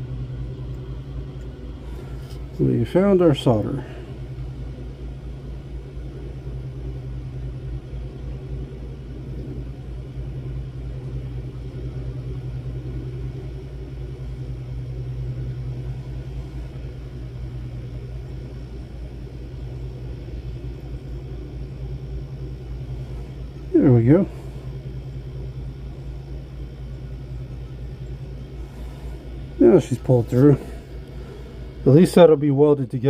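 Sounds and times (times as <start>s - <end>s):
soldering torch flame rumble: 0.0s - 33.0s.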